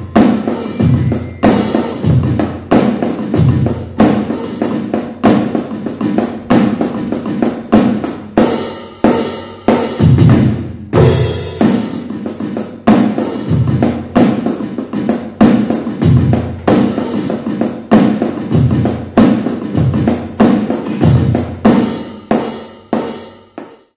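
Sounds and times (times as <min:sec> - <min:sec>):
electronic drum kick and snare beat: 0:00.0 - 0:23.8.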